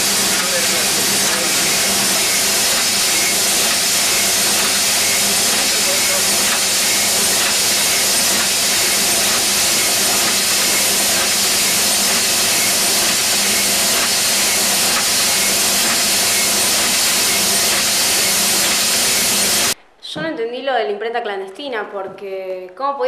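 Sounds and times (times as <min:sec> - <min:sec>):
printing press running: 0:00.0 - 0:19.8.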